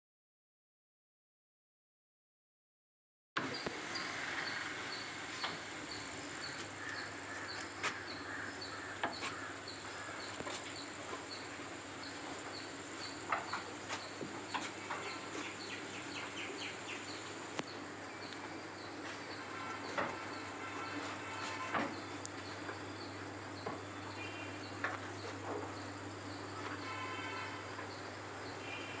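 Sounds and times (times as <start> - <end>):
bird calls: 3.4 - 29.0
steady background hiss: 3.4 - 29.0.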